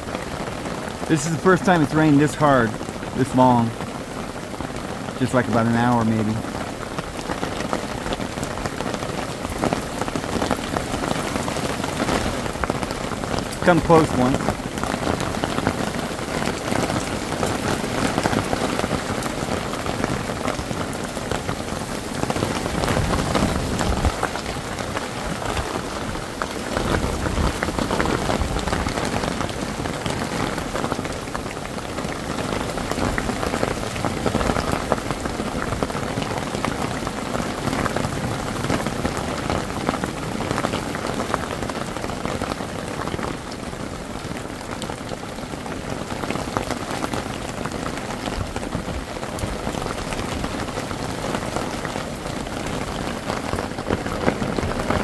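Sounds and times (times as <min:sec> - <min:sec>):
hard rain on a tarp: 0:00.0 - 0:55.0.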